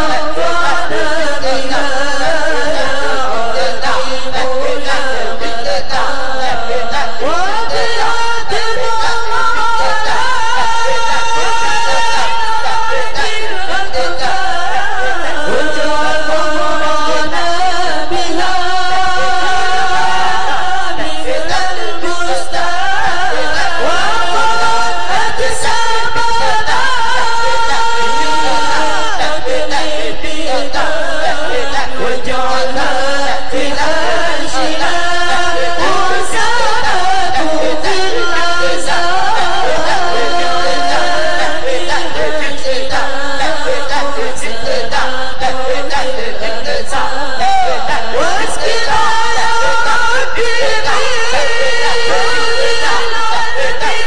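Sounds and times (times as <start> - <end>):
congregation chanting: 0.0 - 54.0.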